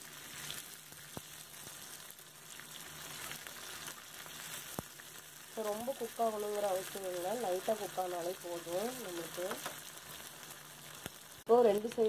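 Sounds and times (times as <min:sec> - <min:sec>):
prawns sizzling in oil: 0:00.0 - 0:12.0.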